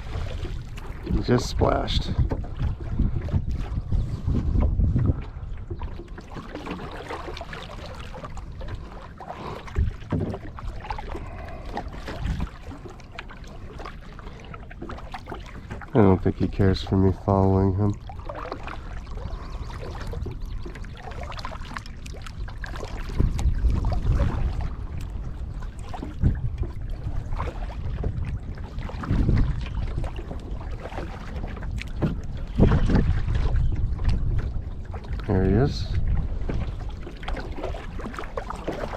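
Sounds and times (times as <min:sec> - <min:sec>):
paddle splashing in water: 0:00.0 - 0:38.9.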